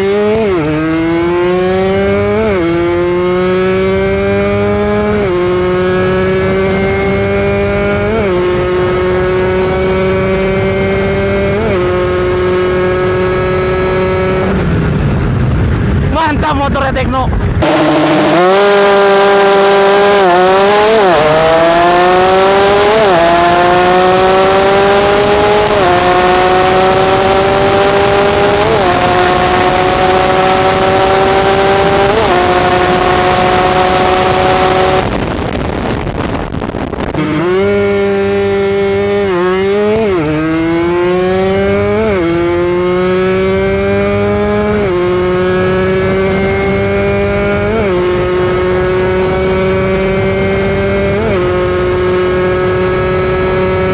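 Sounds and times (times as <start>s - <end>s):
two-stroke engine accelerating: 0.0s - 53.9s.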